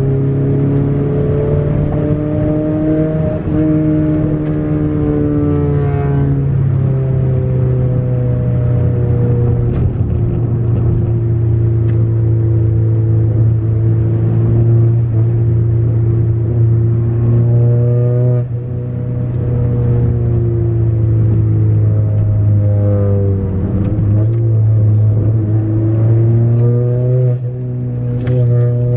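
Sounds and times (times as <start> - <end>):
car exhaust droning: 3.3 - 28.9.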